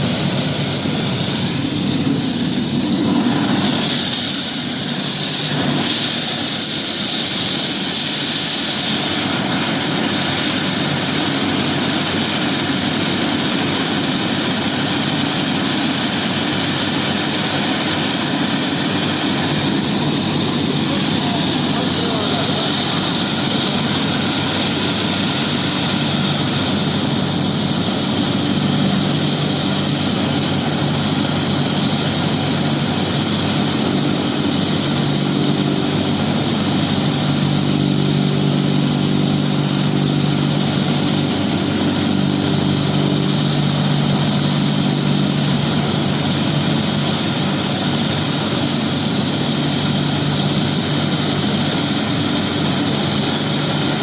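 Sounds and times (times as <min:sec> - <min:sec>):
helicopter running: 0:00.0 - 0:54.0.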